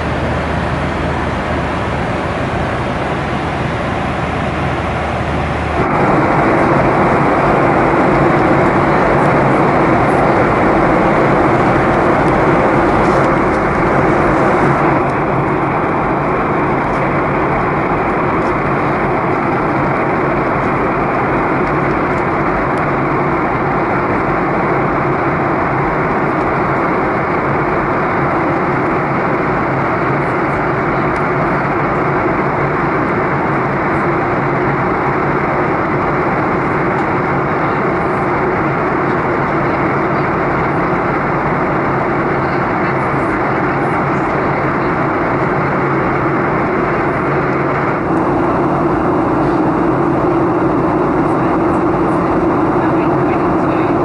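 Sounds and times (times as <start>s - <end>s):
airflow rushing over fuselage: 0.0s - 54.0s
jet engines droning: 0.0s - 54.0s.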